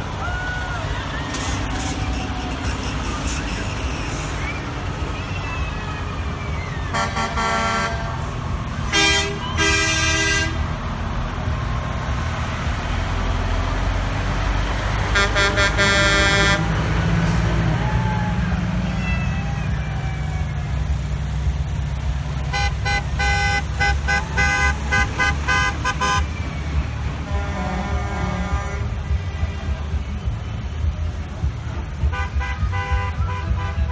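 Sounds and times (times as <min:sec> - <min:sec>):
truck horns honking: 0:00.0 - 0:05.7, 0:06.8 - 0:29.2, 0:32.0 - 0:33.9
truck engines rumbling: 0:00.0 - 0:33.9.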